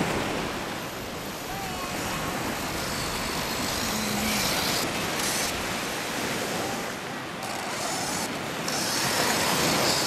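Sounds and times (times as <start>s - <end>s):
surf breaking on shore: 0.0s - 10.0s
faint electric motor whine: 0.8s - 10.0s.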